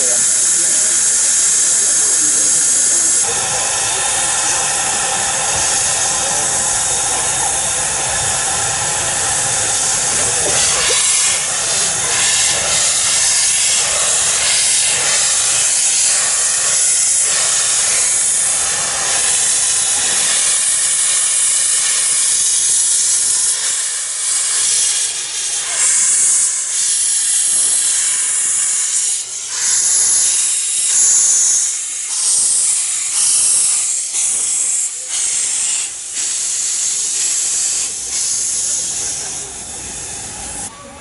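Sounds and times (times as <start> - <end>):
steam locomotive hissing steam: 0.0 - 41.0.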